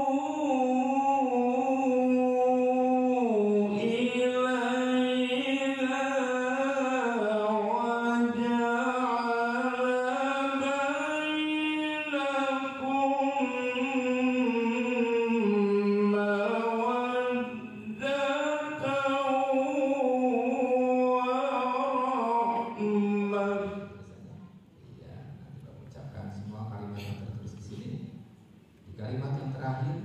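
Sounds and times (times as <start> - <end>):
man chanting through loudspeakers: 0.0 - 24.5.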